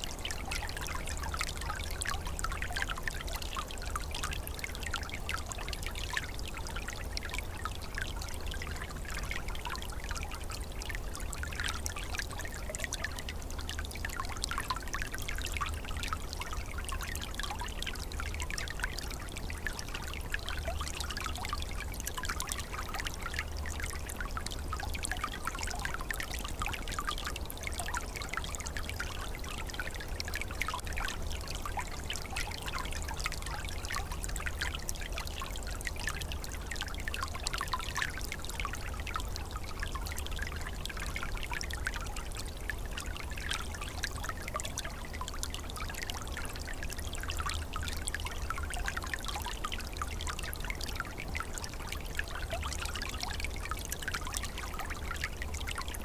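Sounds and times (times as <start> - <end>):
stream trickling and gurgling: 0.0 - 56.0.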